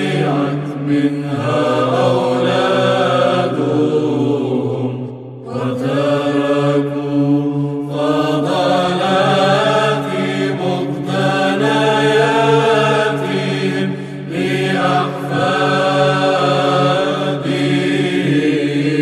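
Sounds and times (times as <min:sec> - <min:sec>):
choir chanting: 0:00.0 - 0:19.0
low held drone: 0:00.0 - 0:19.0.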